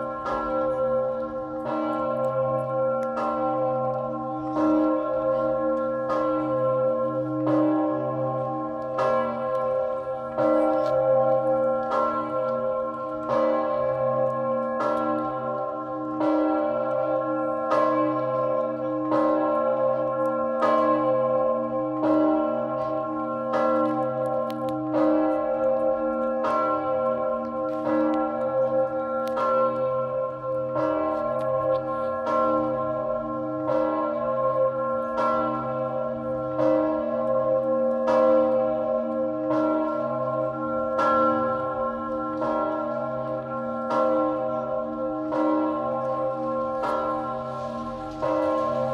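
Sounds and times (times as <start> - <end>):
large bell ringing: 0.0 - 48.9.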